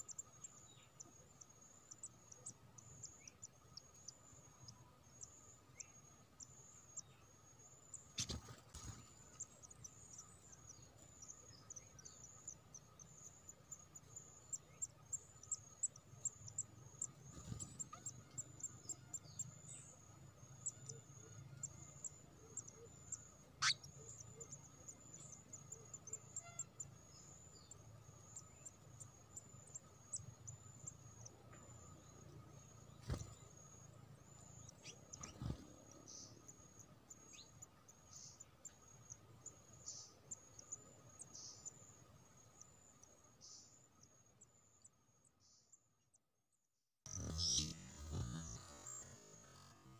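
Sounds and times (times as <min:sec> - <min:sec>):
insect chirping: 0:00.0 - 0:45.7, 0:47.1 - 0:49.9.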